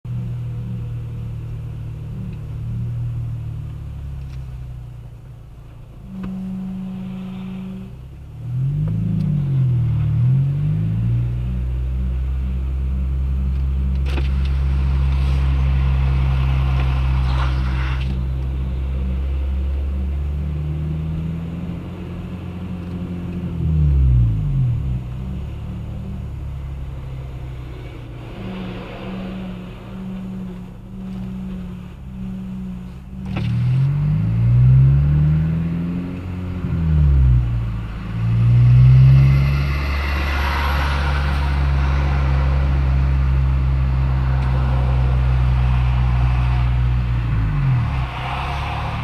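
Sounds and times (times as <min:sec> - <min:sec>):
car engine revving: 0:00.1 - 0:49.0.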